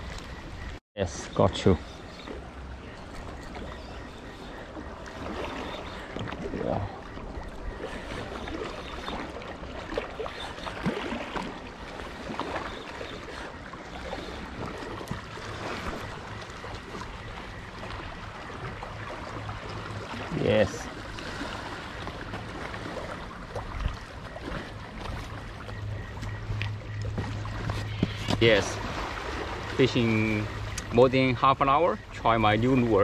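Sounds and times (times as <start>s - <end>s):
water lapping on rocky shore: 1.4s - 33.0s.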